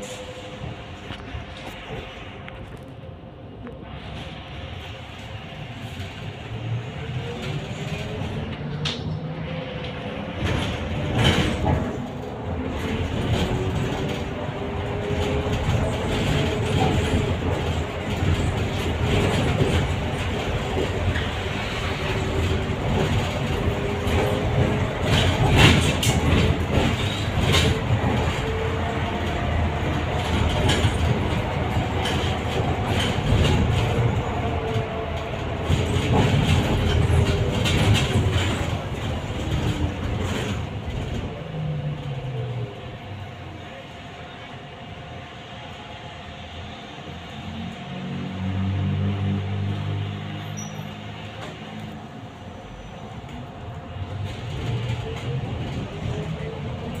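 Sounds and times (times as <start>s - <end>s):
trolleybus rumble: 0.0s - 57.0s.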